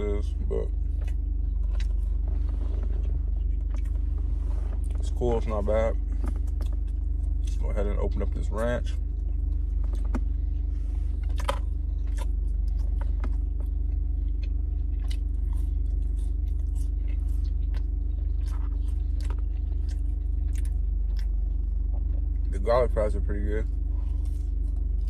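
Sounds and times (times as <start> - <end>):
fries being bitten and chewed: 0.0 - 25.0
steady low hum: 0.0 - 25.0.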